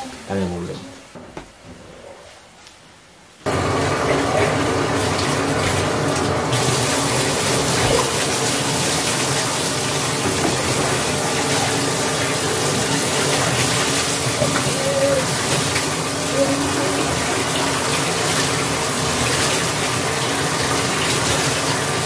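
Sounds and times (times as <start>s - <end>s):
shower running: 3.4s - 22.0s.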